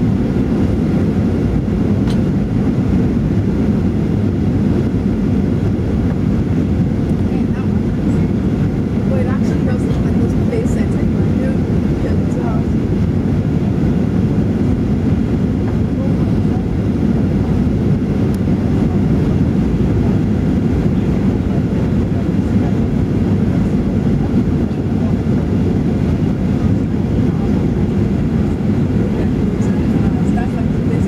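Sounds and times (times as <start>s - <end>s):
airplane cabin engine rumble: 0.0s - 31.0s.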